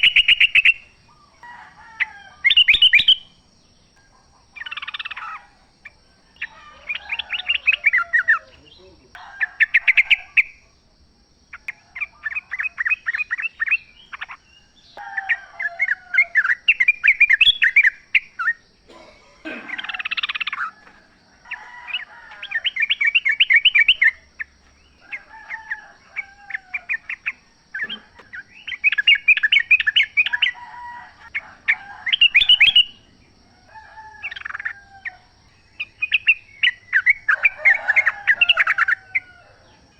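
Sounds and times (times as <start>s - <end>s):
bird chattering song: 0.0s - 1.4s, 2.4s - 10.8s, 11.4s - 33.1s, 34.2s - 39.2s.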